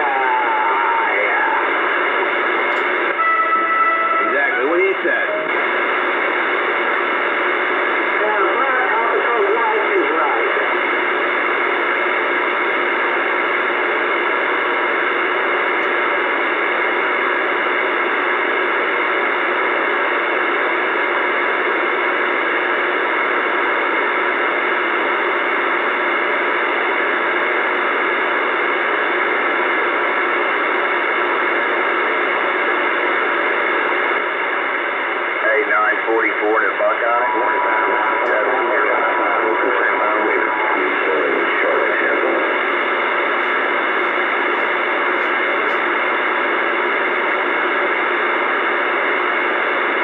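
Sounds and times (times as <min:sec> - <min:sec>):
radio static hiss: 0:00.0 - 0:50.0.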